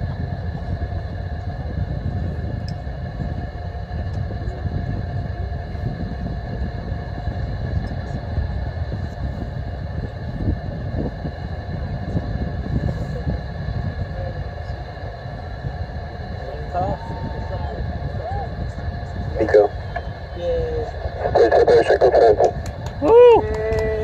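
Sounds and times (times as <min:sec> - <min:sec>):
distant rocket engine rumble: 0:00.0 - 0:24.0.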